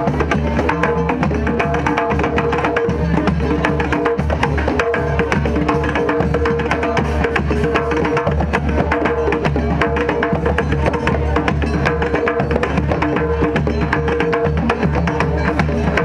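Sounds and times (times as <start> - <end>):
drums and hand percussion: 0.0 - 16.0.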